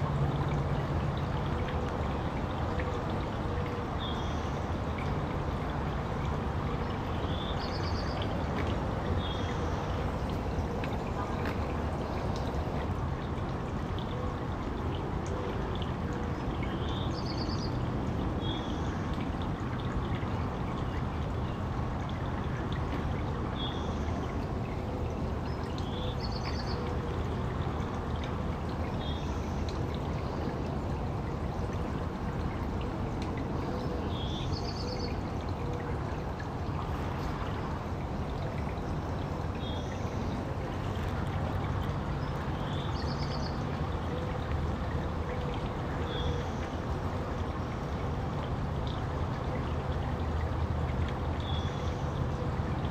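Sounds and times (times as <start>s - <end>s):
fountain jets splashing: 0.0s - 52.9s.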